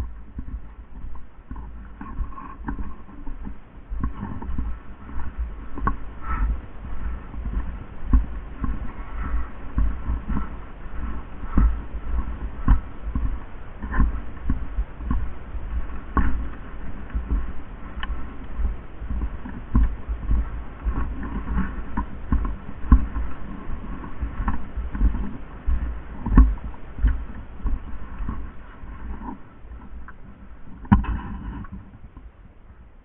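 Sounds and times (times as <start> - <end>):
low thumps and knocks: 0.0 - 33.0
steady rumble: 0.0 - 33.0.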